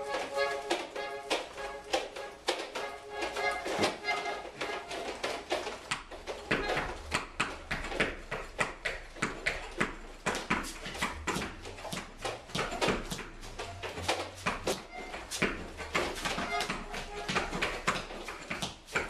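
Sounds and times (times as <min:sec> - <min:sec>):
tap shoes clicking on stage floor: 0:00.0 - 0:19.0.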